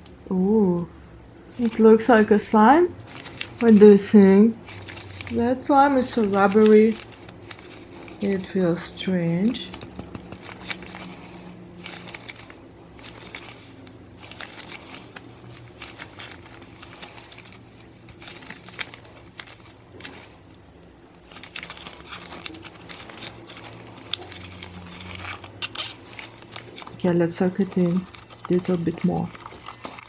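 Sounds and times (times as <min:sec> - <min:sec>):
slime crinkling and crackling: 0:01.4 - 0:30.0.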